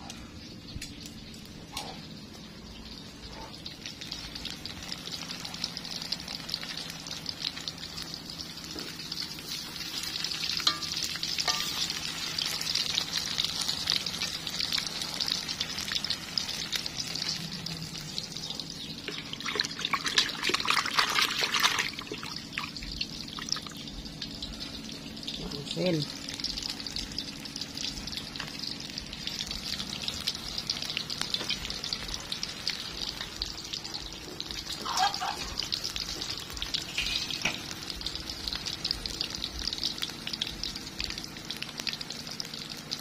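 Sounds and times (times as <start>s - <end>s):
food deep-frying in oil: 0.0s - 43.0s.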